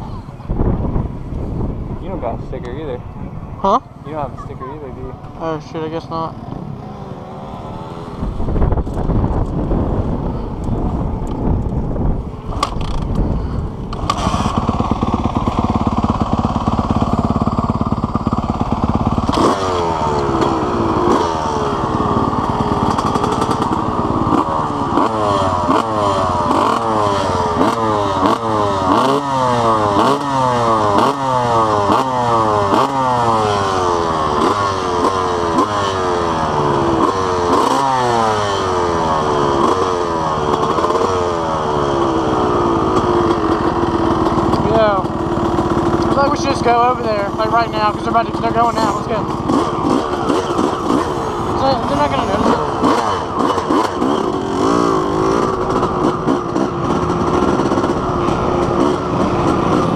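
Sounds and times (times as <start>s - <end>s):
dirt bike engine revving: 4.0s - 10.4s, 12.6s - 59.9s.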